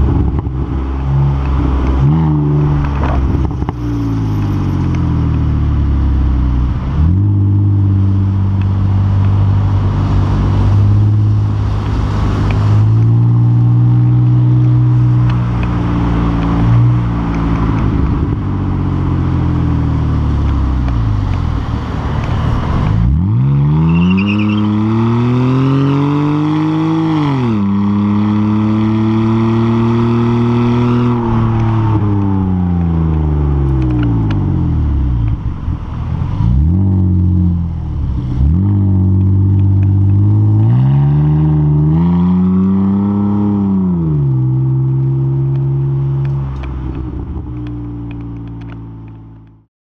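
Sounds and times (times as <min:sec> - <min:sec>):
loud car exhaust while driving: 0:00.0 - 0:49.6.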